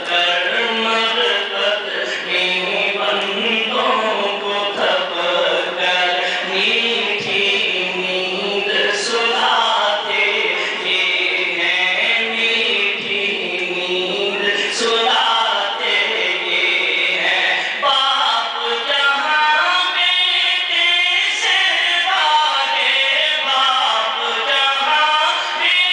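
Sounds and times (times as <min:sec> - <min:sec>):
man chanting through microphone: 0:00.0 - 0:25.9.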